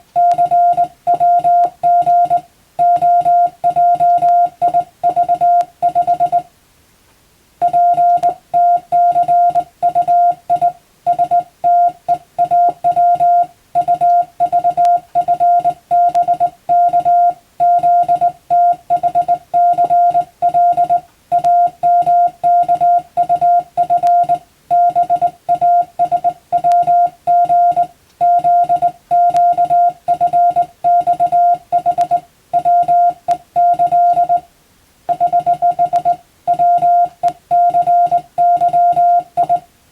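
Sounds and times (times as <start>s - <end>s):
morse code beeping tone: 0.2s - 6.5s, 7.6s - 34.5s, 35.1s - 39.7s.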